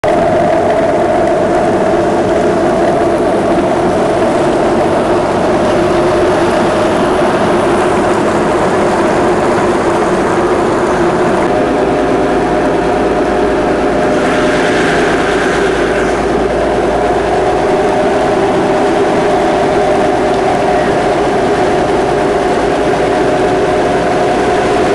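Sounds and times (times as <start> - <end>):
motorboat engine drone: 0.0 - 24.9
wind and water noise: 0.0 - 24.9.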